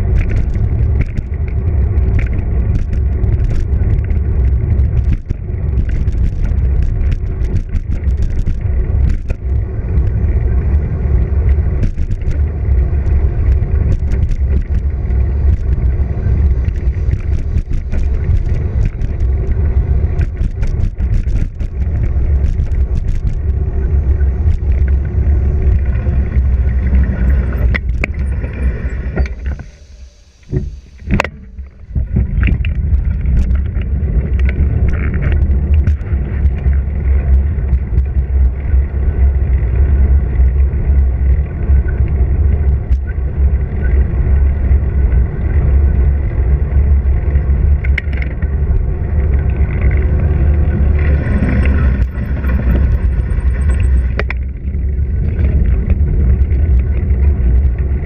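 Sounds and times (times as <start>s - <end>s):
small rattles and clicks: 0.0s - 58.0s
tyre noise on asphalt: 0.0s - 58.0s
wind buffeting microphone: 0.0s - 58.0s.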